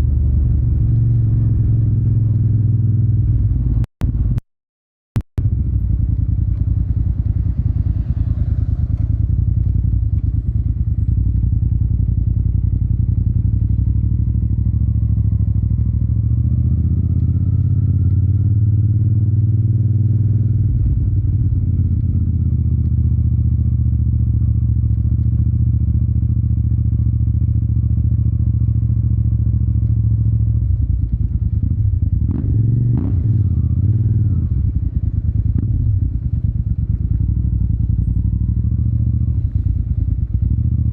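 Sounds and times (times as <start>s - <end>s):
motorcycle engine running: 0.0s - 4.4s, 5.4s - 40.9s.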